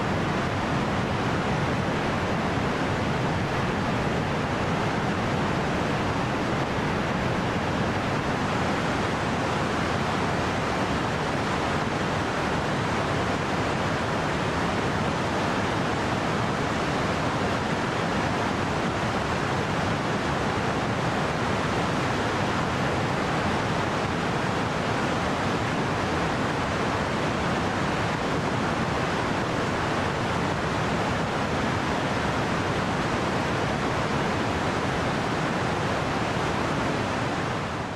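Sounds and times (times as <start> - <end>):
river rushing over rapids: 0.0 - 37.9.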